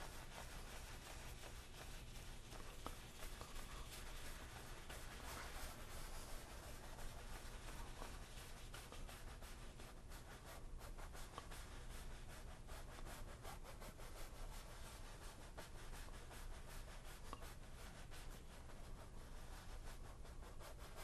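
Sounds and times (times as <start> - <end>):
paintbrush scratching on canvas: 0.0 - 21.0.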